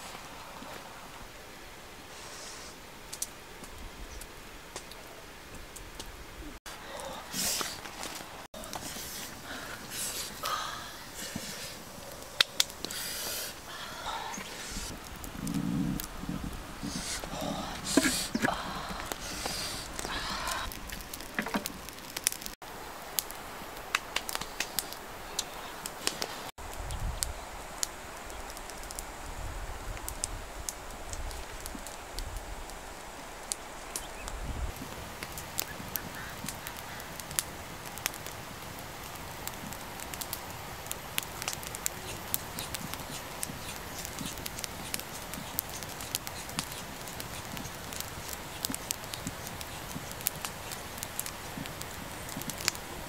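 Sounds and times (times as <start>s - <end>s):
wood fire crackling and popping: 3.1s - 53.0s.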